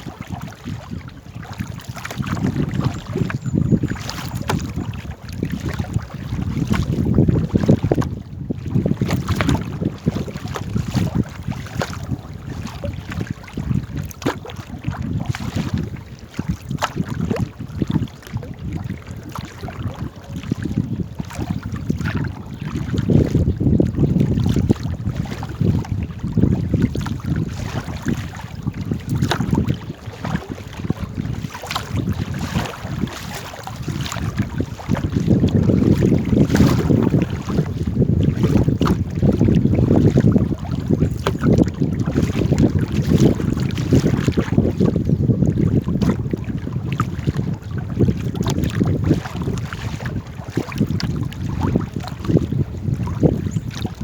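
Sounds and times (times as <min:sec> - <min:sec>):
paddle splashing and knocking hull: 0:00.0 - 0:54.0
wind rumble on microphone: 0:00.0 - 0:54.0.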